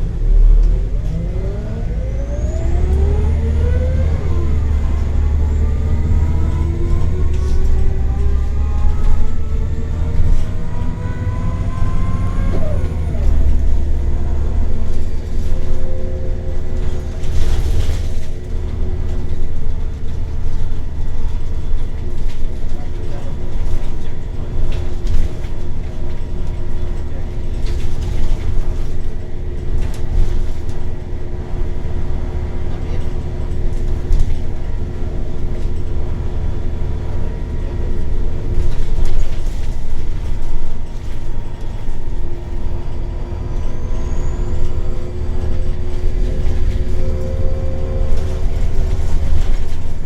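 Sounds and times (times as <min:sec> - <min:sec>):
bus engine rumble with whine: 0:00.0 - 0:50.0.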